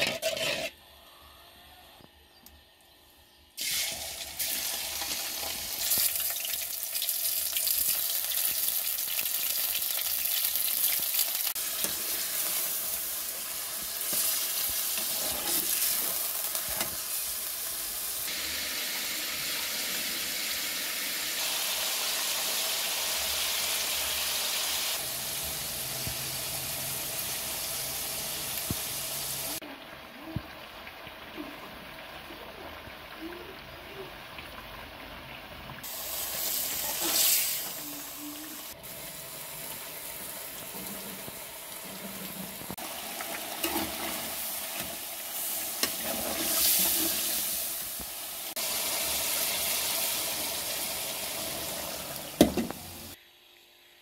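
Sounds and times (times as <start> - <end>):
chicken sizzling in hot oil: 3.5 - 53.2.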